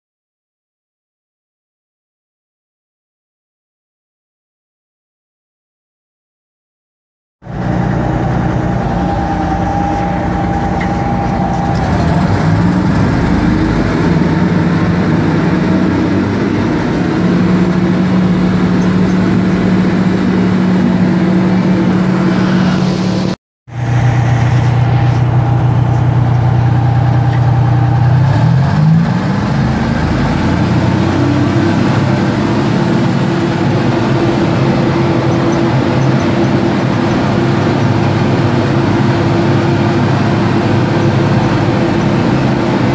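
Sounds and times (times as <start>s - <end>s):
diesel engines running: 7.4s - 42.9s.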